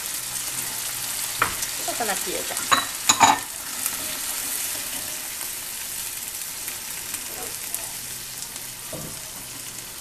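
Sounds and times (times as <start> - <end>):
spatula stirring in a pan: 0.0 - 10.0
vegetables sizzling in a frying pan: 0.0 - 10.0.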